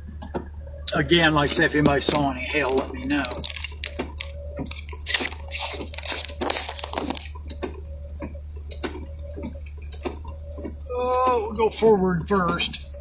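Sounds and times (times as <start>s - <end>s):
car cabin low hum: 0.0s - 13.0s
raindrops tapping on car roof: 0.1s - 10.8s.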